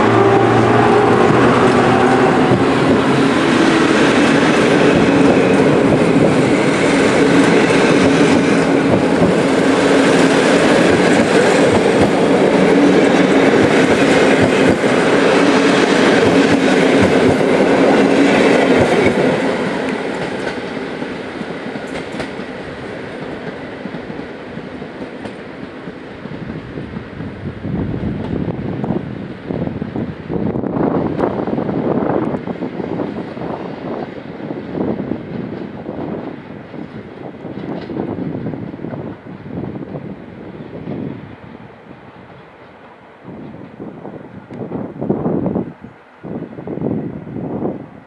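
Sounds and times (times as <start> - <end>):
train coaches rolling on rails: 0.0 - 48.0.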